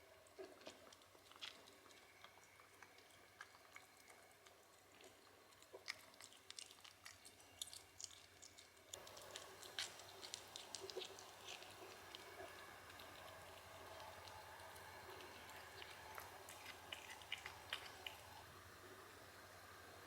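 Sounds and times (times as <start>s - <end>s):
cat chewing food: 0.2s - 19.8s.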